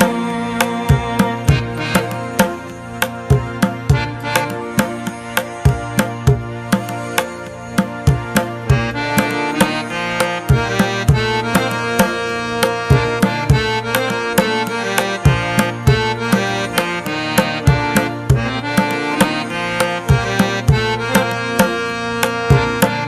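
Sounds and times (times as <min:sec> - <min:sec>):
steady drum beat: 0:00.0 - 0:23.0
sustained melodic line: 0:00.0 - 0:23.0.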